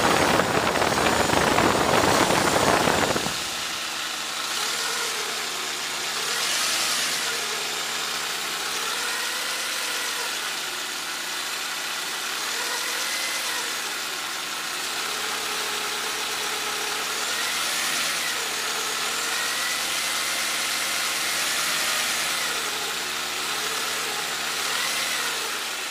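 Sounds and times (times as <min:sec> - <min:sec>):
car engine revving with whine: 0:00.0 - 0:25.9.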